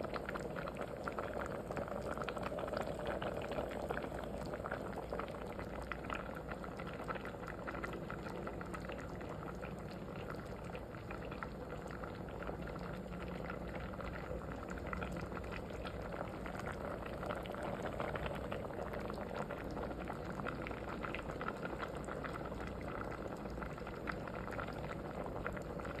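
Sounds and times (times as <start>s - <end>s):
liquid boiling in a pot: 0.0s - 26.0s.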